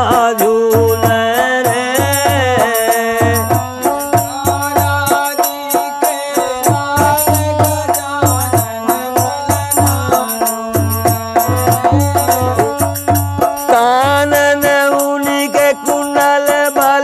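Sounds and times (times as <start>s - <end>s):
dholak drum rhythm: 0.0s - 17.0s
harmonium melody: 0.0s - 17.0s.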